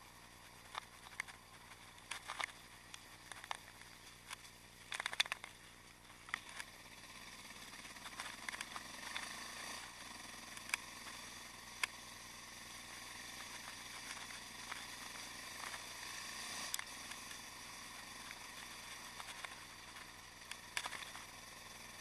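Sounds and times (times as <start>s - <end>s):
muffled motorcycle engine: 0.0s - 22.0s
steady hiss: 0.0s - 22.0s
sharp clicks: 0.4s - 12.2s, 12.8s - 22.0s.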